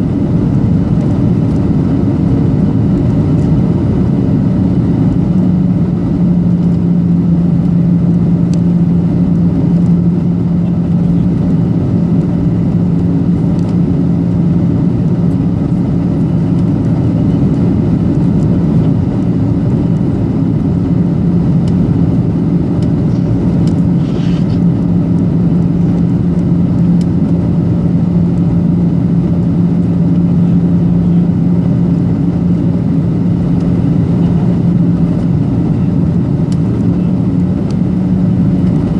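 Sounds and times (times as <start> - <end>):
jet cabin engine rumble: 0.0 - 38.9.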